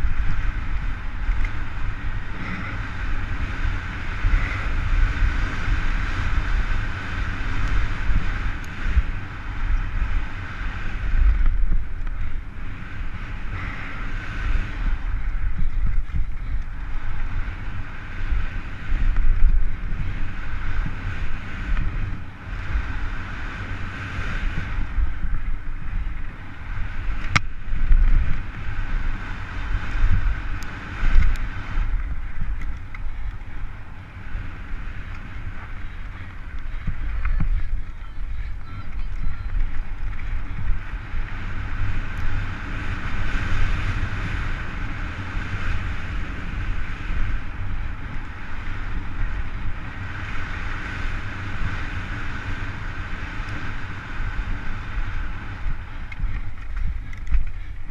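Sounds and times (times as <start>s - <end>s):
bike tyres rolling on rocky dirt: 0.0s - 57.9s
wind buffeting microphone: 0.0s - 57.9s.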